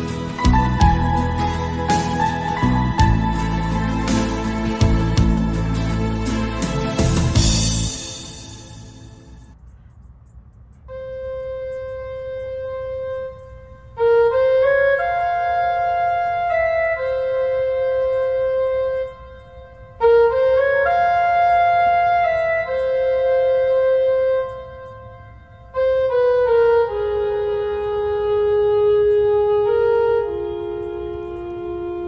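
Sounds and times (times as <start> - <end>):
slow wind instrument melody: 0.0 - 9.5, 10.9 - 32.0.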